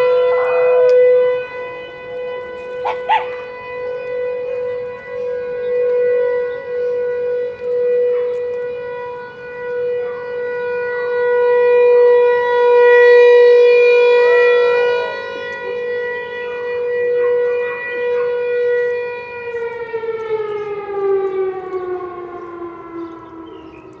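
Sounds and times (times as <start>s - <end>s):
wailing warning siren: 0.0s - 24.0s.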